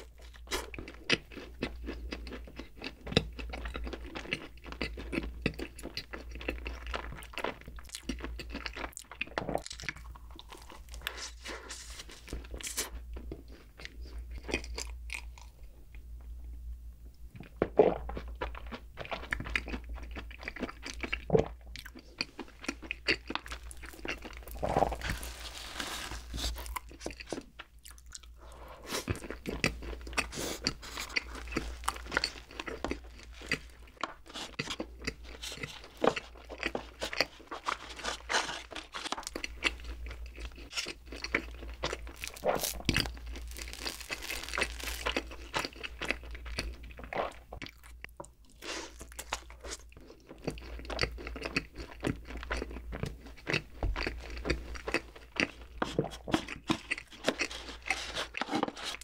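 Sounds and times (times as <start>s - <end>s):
chewing soft bread: 0.0s - 59.0s.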